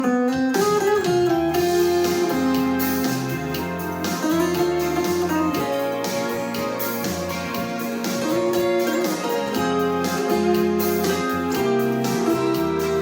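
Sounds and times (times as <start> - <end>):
instrumental guitar music: 0.0 - 13.0.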